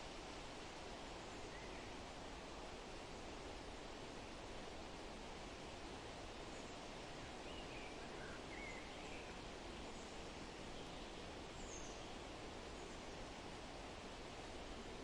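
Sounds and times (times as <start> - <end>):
rustling hiss: 0.0 - 15.0.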